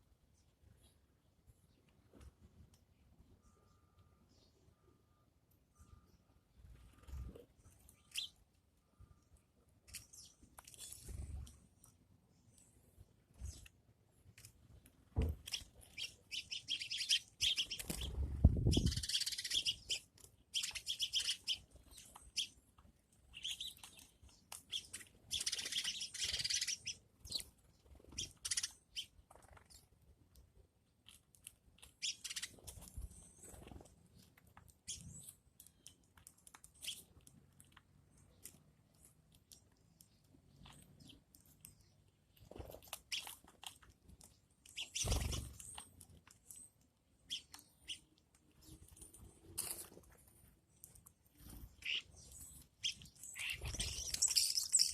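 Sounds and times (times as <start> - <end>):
bird chirping: 3.2 - 14.0, 15.2 - 30.0, 31.8 - 54.9.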